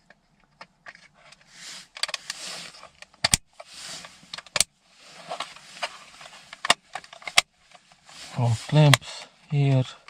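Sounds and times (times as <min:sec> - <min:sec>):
plastic parts scraping and rubbing: 0:00.0 - 0:10.0.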